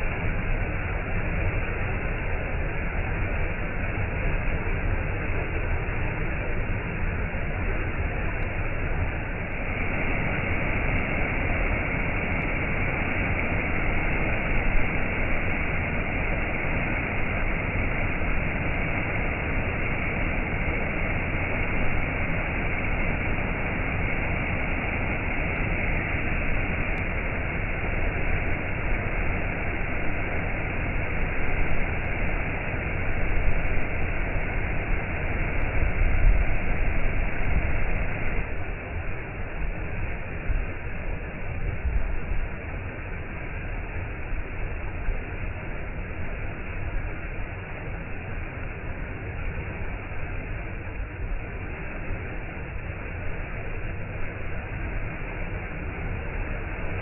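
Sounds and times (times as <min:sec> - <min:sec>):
waterfall rushing: 0:03.2 - 0:57.0.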